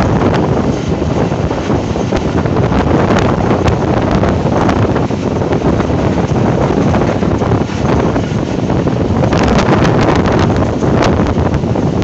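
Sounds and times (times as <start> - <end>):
passenger train rumbling: 0.0 - 12.0
wind buffeting microphone: 0.0 - 12.0.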